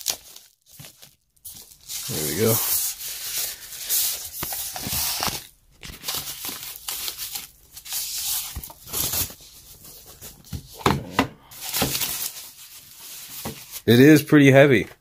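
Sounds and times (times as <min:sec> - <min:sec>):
plastic bag crinkling: 0:00.0 - 0:10.3, 0:11.5 - 0:13.9.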